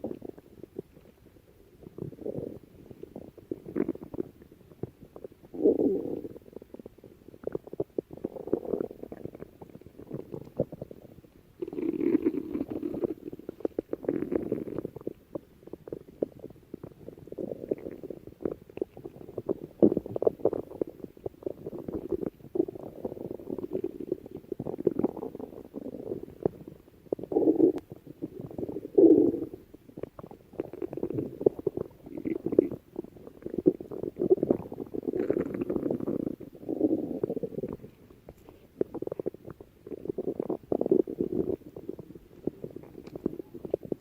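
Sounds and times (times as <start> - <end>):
stomach growling: 0.0 - 44.0.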